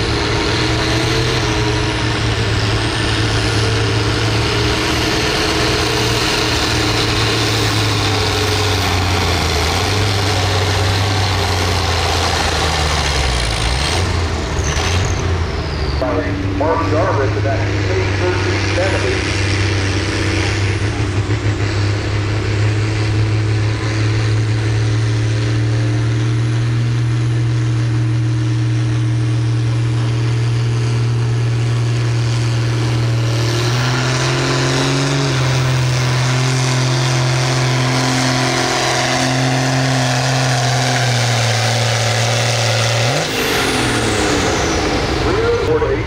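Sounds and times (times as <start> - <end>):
tractor diesel engine at full load: 0.0 - 46.0.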